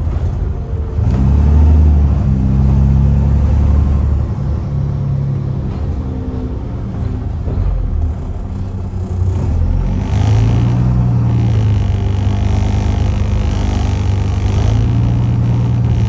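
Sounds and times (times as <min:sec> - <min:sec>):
bus diesel engine pulling away: 0:00.0 - 0:16.0.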